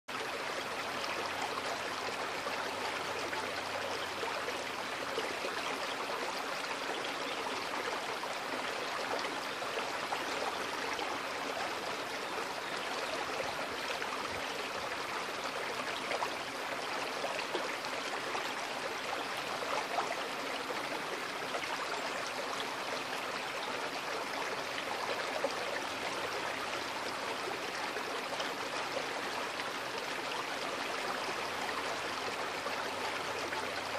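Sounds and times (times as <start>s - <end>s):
creek flowing over stones: 0.1s - 33.9s.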